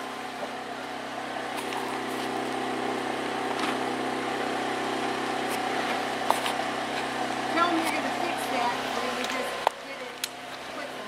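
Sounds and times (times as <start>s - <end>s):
steady engine-like hum: 0.0s - 11.0s.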